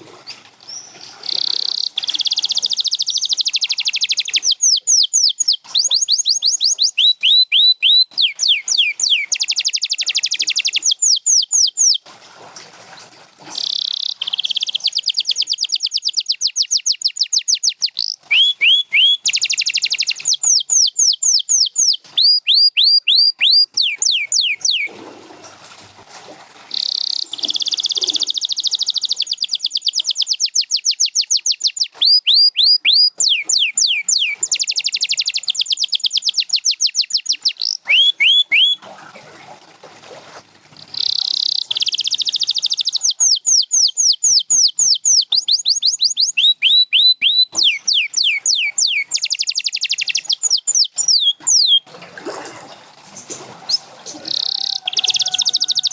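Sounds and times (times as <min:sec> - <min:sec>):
canary singing: 0:00.7 - 0:12.0, 0:13.6 - 0:24.9, 0:26.8 - 0:38.8, 0:40.8 - 0:51.9, 0:53.3 - 0:55.9.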